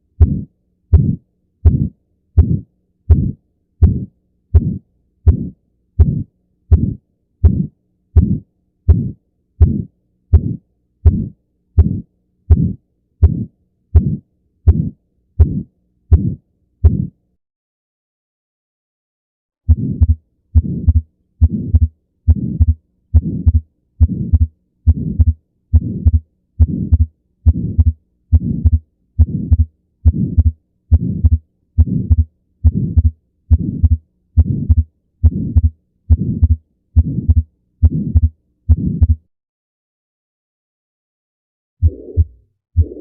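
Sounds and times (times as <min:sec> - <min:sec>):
heartbeat: 0:00.2 - 0:17.2, 0:19.7 - 0:39.2, 0:41.8 - 0:43.0.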